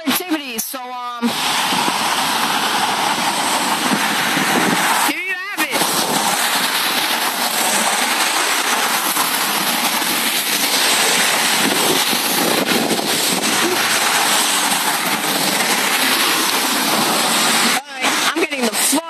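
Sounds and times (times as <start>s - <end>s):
wind gusting through trees: 1.3s - 18.4s.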